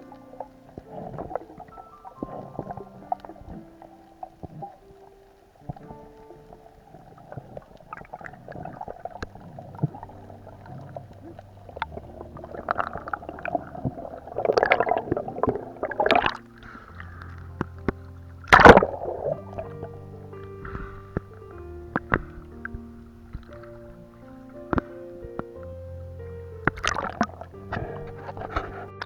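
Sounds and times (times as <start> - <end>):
background music held notes: 0.0 - 29.0
water splashing and gurgling: 0.0 - 29.0.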